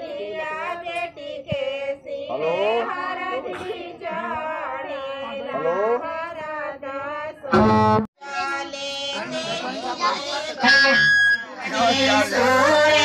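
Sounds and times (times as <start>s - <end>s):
women singing together: 0.0s - 10.8s, 11.6s - 13.0s.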